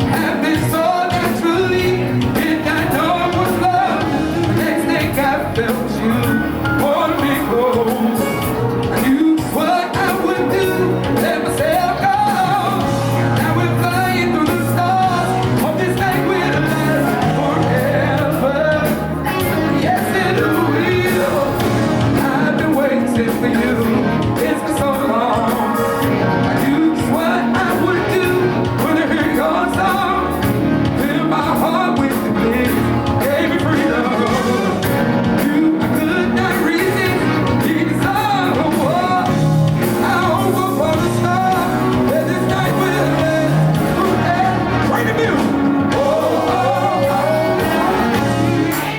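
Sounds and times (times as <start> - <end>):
live band playing: 0.0 - 48.9.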